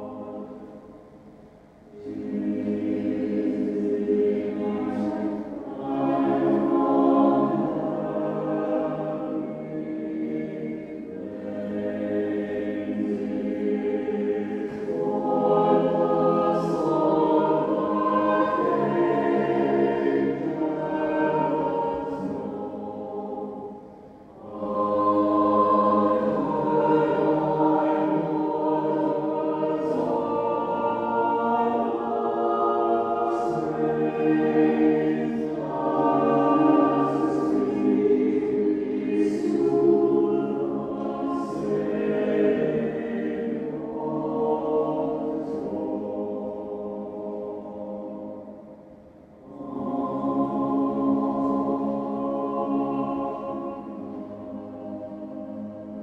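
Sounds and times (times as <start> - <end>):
church choir singing: 0.0 - 56.0.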